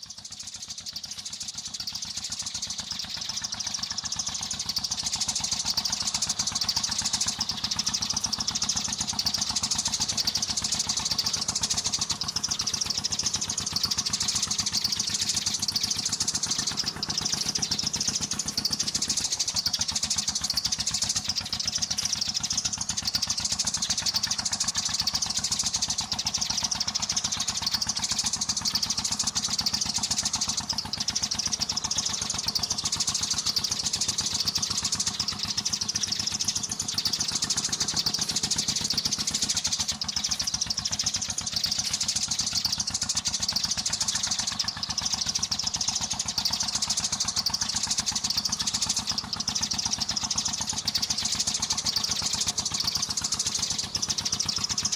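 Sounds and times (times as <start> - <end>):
many sparrows chirping: 0.0 - 54.9.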